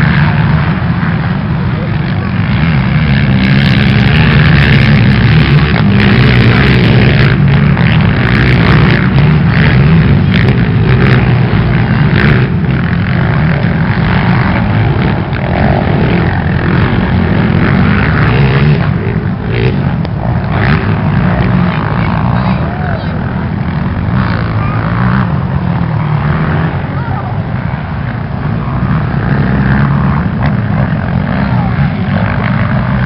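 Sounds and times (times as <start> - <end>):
racing atv engines running: 0.0 - 33.0.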